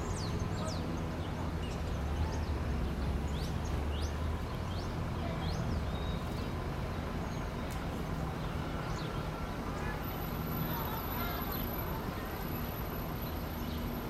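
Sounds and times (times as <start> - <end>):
city traffic rumble: 0.0 - 14.0
small birds chirping: 0.0 - 14.0.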